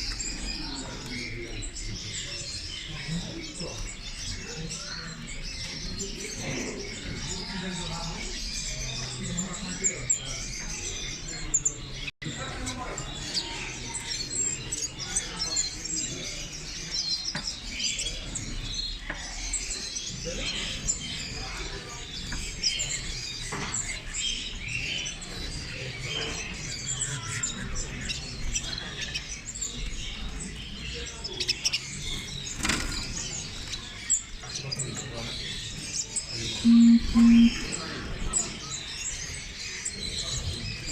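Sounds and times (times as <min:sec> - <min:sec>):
murmur of voices: 0:00.0 - 0:40.9
small birds chirping: 0:00.0 - 0:40.9.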